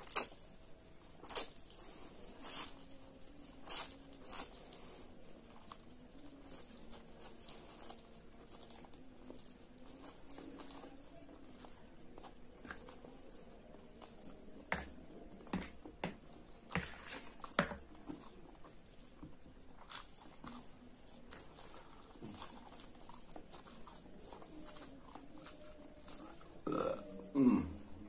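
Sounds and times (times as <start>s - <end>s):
person chewing noodles: 0.0s - 28.0s.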